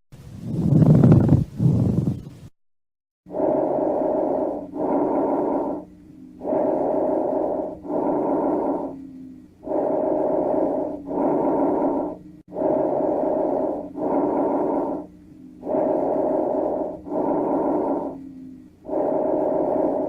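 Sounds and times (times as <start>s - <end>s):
lung breath sounds: 3.3s - 20.0s.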